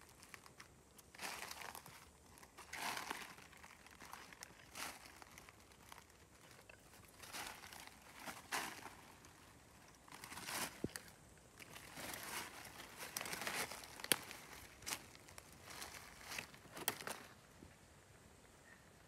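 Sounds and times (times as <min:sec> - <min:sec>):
dry leaves rustling and crackling: 0:00.0 - 0:17.4.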